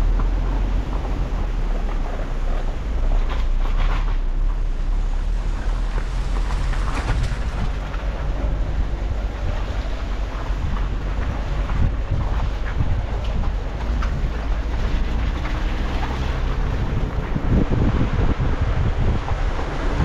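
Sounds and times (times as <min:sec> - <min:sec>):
car driving over gravel: 0:00.0 - 0:20.0
wind buffeting microphone: 0:00.0 - 0:20.0.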